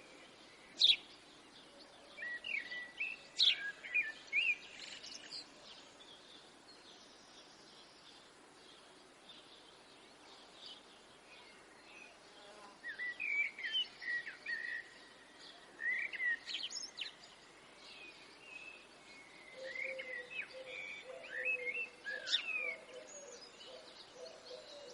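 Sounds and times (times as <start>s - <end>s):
birds chirping and trilling: 0.0s - 24.9s.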